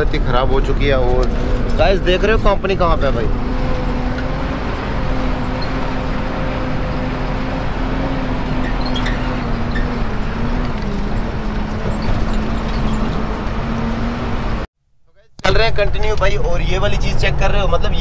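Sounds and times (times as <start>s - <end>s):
diesel truck engine running: 0.0s - 14.7s.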